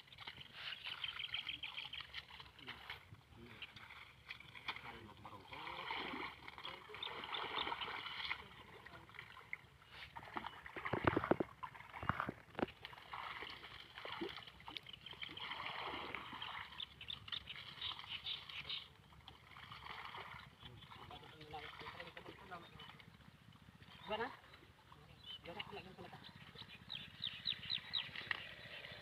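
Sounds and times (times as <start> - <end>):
water splashing around boat: 0.0 - 29.0.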